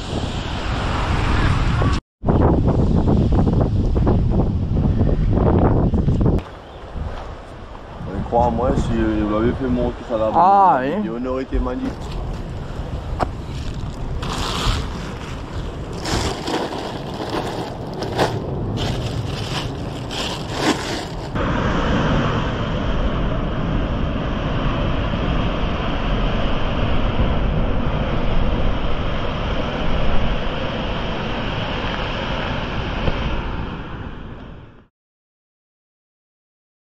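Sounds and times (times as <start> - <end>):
wind buffeting microphone: 0.0 - 34.1.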